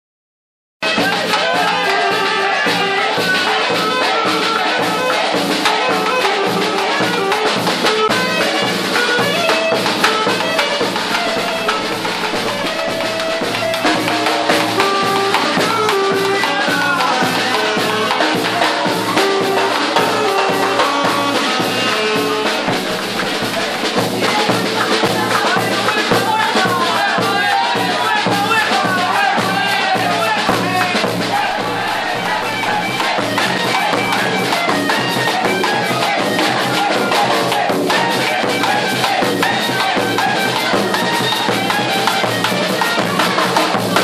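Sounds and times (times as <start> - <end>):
brass and trumpet lines: 0.8 - 44.0
steady drum beat: 0.8 - 44.0.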